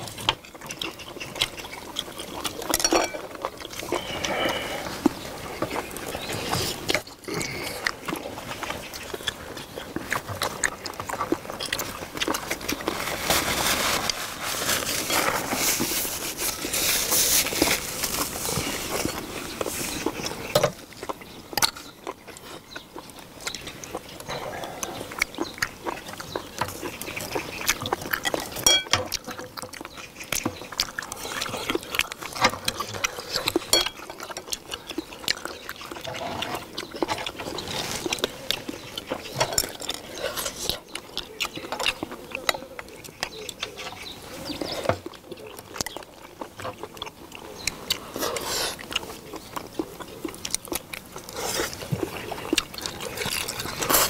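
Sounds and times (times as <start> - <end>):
people chewing: 0.0 - 54.0.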